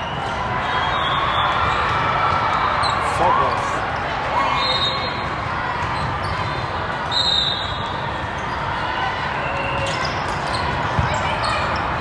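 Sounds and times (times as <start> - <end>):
echoing crowd and court noise: 0.0 - 12.0.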